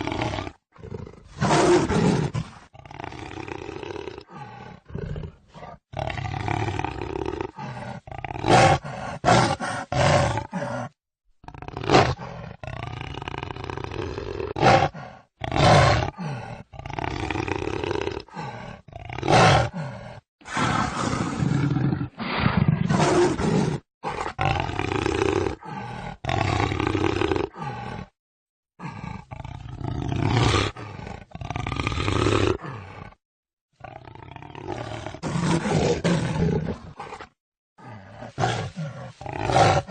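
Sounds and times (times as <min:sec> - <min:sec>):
jaguar roars: 0:00.0 - 0:28.1, 0:28.8 - 0:33.2, 0:33.8 - 0:39.9.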